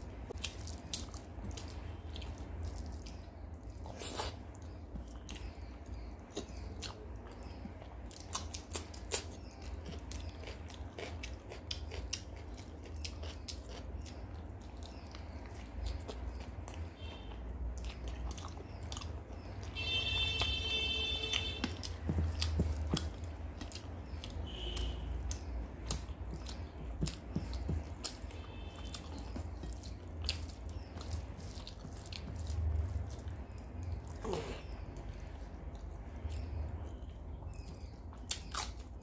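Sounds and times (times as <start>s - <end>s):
chewing and mouth smacks: 0.1s - 19.8s, 21.2s - 39.0s.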